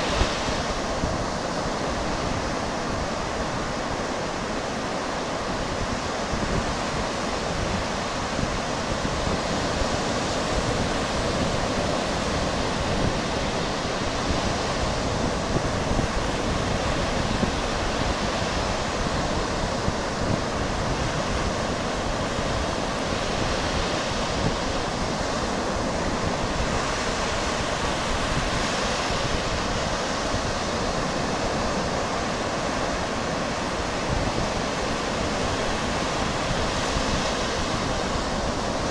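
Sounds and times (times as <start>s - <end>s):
surf washing onto beach: 0.0s - 38.9s
wind buffeting microphone: 0.0s - 38.9s.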